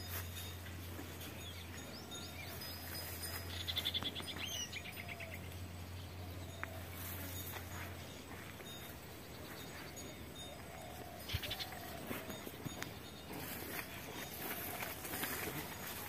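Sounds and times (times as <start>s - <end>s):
bird trill: 0.0s - 16.0s
birds chirping: 0.0s - 16.0s.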